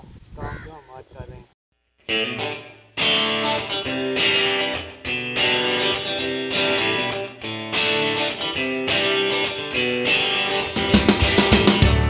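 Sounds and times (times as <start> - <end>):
guitar tune: 2.0 - 12.0.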